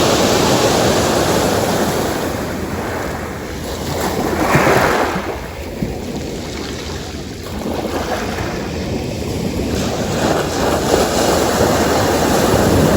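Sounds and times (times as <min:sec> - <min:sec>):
ocean waves breaking: 0:00.0 - 0:12.9.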